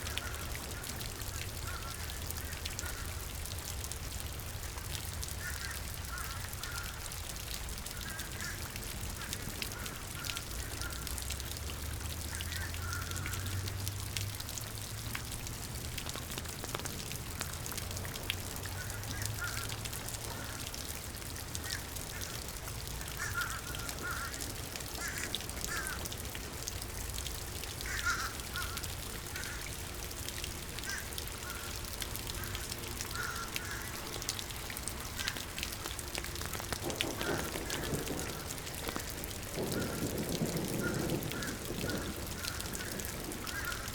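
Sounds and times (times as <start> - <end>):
rain hissing: 0.0 - 43.9.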